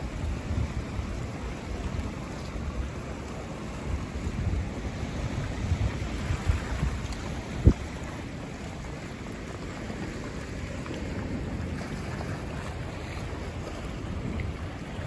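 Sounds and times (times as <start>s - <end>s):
waves washing: 0.0s - 15.0s
wind buffeting microphone: 0.0s - 15.0s.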